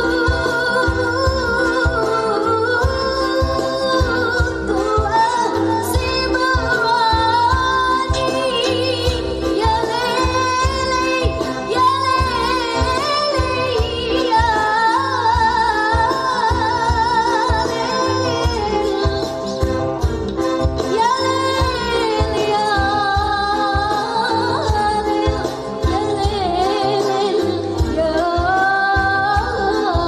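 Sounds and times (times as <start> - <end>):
girl singing with vibrato: 0.0 - 19.5, 20.9 - 30.0
band with keyboard and strings: 0.0 - 30.0
steady drumbeat: 0.0 - 30.0.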